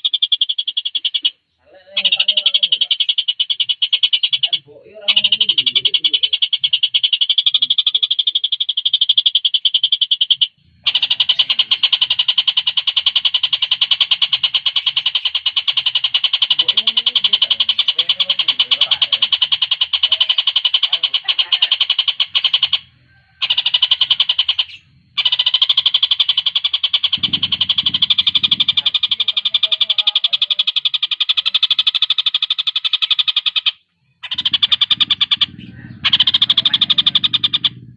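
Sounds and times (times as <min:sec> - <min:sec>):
kingfisher rattling trill: 0:00.0 - 0:37.9.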